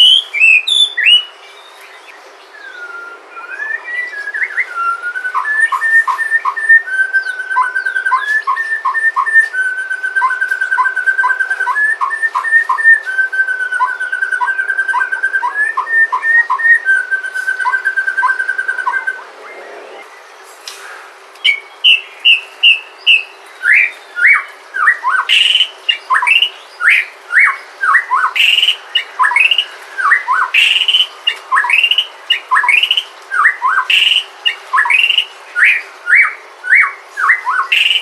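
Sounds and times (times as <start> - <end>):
bird singing whistled phrases: 0.0 - 20.2, 21.4 - 38.0.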